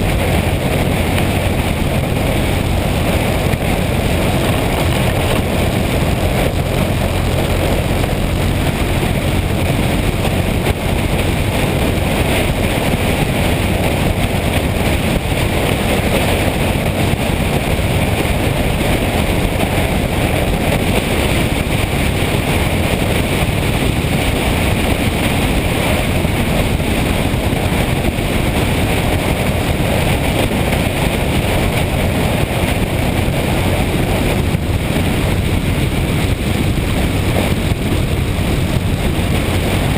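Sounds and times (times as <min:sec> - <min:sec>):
motorcycle running at speed: 0:00.0 - 0:39.9
wind rush on microphone: 0:00.0 - 0:39.9.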